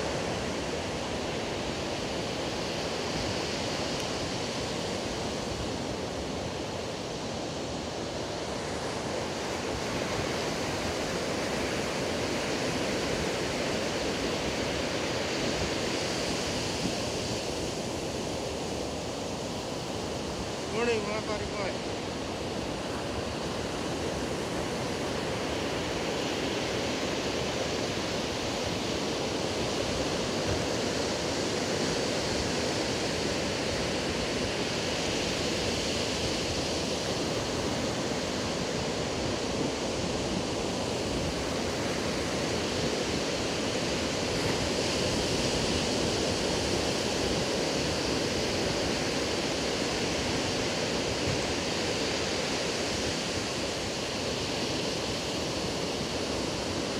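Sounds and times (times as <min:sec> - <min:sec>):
ocean waves washing on beach: 0:00.0 - 0:56.9.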